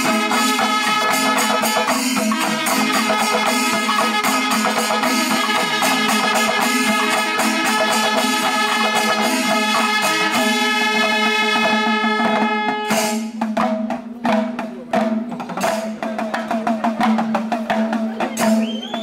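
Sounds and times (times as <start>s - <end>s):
drums beating: 0.0s - 19.0s.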